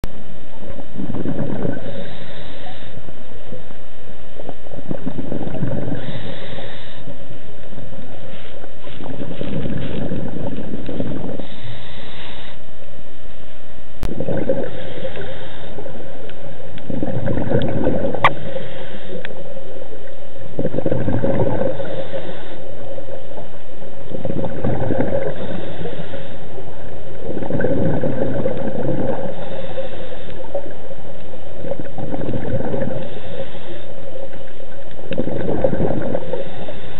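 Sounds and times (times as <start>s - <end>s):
diver breathing through regulator: 1.0s - 3.3s, 4.9s - 7.5s, 8.1s - 12.8s, 14.2s - 20.0s, 20.6s - 23.5s, 24.1s - 36.9s.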